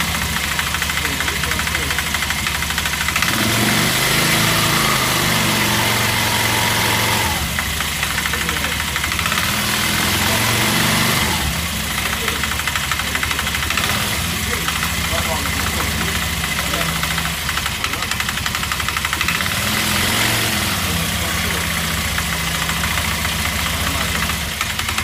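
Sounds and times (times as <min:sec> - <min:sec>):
atv engine idling and revving: 0:00.0 - 0:25.0
rapid engine knocking: 0:00.0 - 0:25.0.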